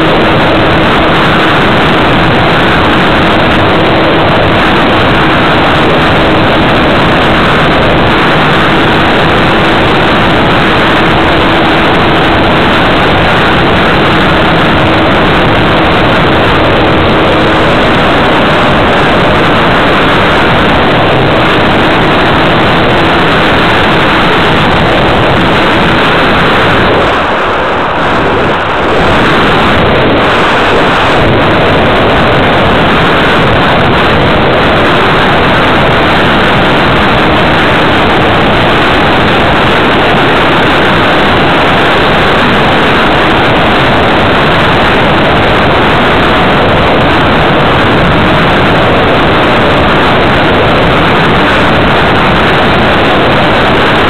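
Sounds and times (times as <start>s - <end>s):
rush of airflow on microphone: 0.0s - 54.0s.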